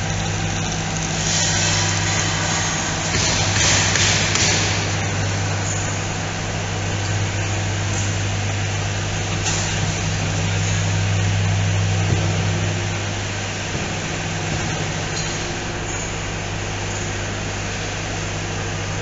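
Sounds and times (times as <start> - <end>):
machinery rushing noise: 0.0 - 17.6
low electrical hum: 0.0 - 19.0.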